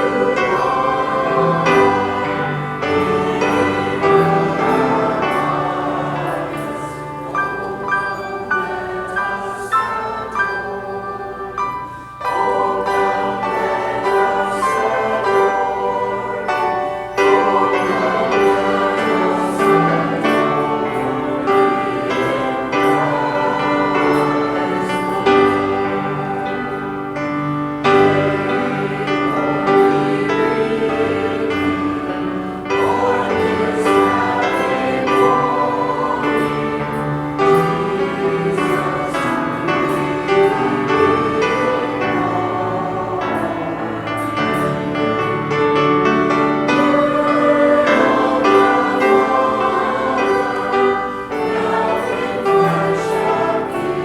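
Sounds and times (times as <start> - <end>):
choir singing with accompaniment: 0.0 - 54.0.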